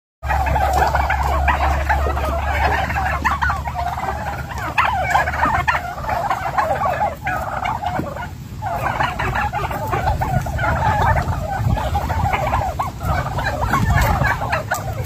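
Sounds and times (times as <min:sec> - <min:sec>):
turkeys calling: 0:00.2 - 0:15.0.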